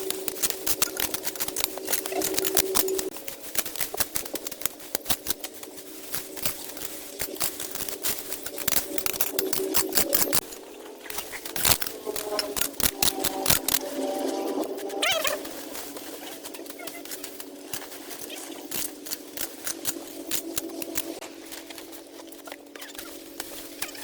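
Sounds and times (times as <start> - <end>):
rapid irregular clicking and tapping: 0.0 - 24.0.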